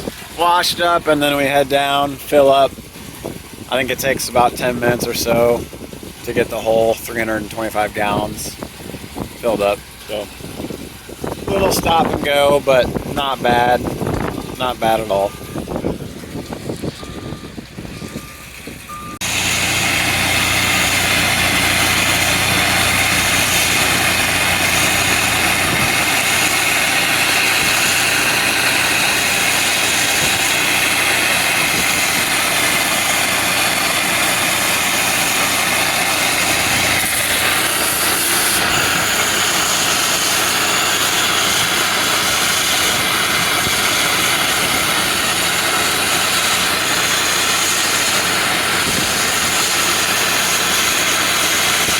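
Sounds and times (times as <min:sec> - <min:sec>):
pressure washer engine running: 0:00.0 - 0:51.9.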